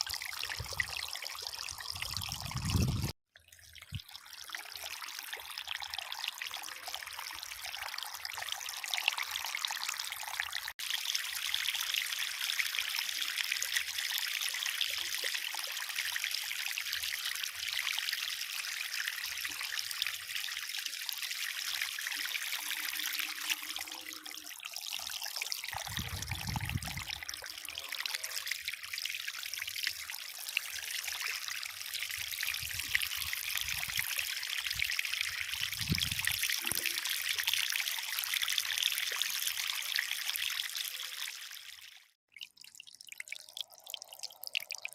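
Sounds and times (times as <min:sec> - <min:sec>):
water trickling over waterfall: 0:00.0 - 0:44.9.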